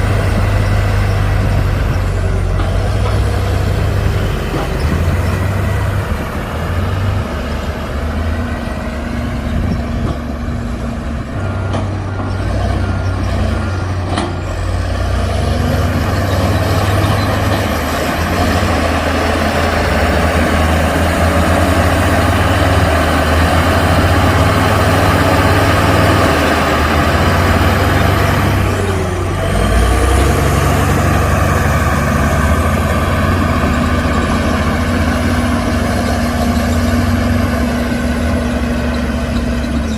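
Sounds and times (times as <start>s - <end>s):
heavy diesel machinery engine: 0.0s - 39.9s.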